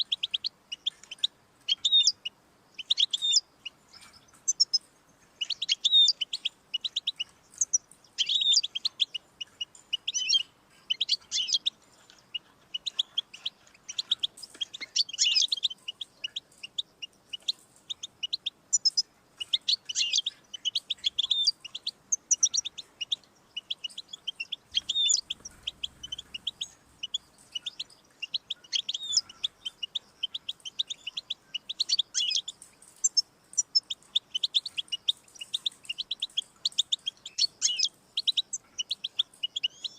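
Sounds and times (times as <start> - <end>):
goldfinch twittering and trilling: 0.0 - 39.9.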